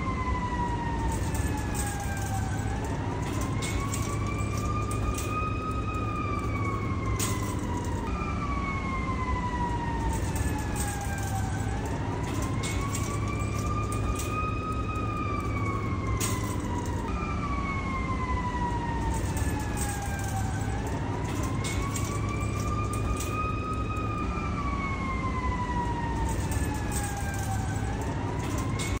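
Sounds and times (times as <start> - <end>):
siren wailing: 0.0 - 29.0.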